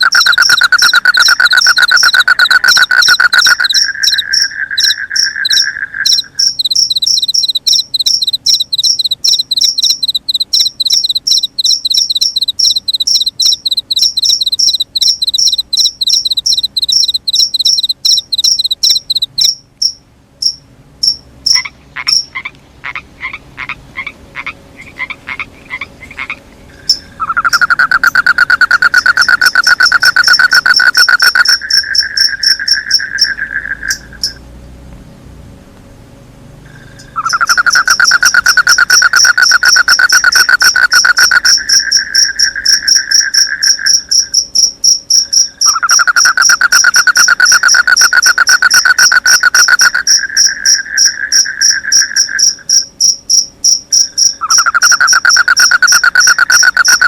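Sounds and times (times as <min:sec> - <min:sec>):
crickets chirping: 0:00.0 - 0:22.5, 0:23.4 - 0:34.8, 0:36.6 - 0:57.0
frogs croaking rapidly: 0:00.0 - 0:34.5, 0:36.6 - 0:57.0
slow pulsed frog call: 0:00.0 - 0:34.5, 0:36.6 - 0:57.0.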